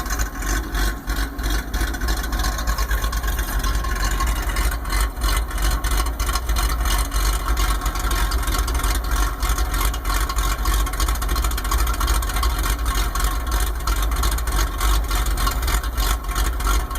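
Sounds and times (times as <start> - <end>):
truck engine idling unevenly: 0.0 - 16.9.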